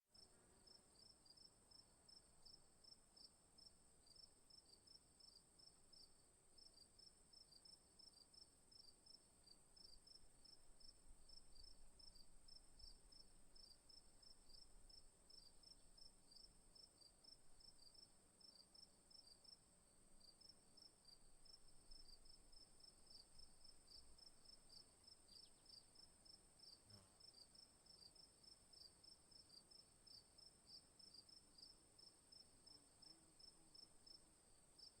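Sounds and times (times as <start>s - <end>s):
crickets chirping: 6.7s - 35.0s.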